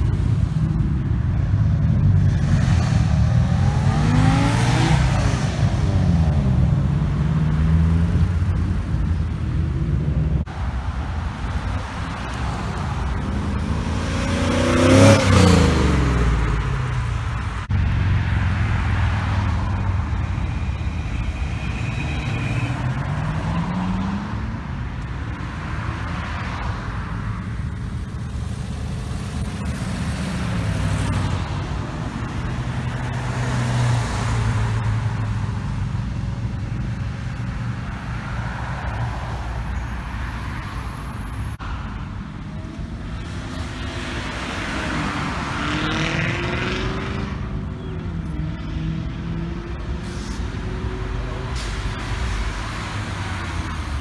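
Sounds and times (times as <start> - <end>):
car engine accelerating: 0.0 - 54.0
car engines driving past: 0.0 - 54.0.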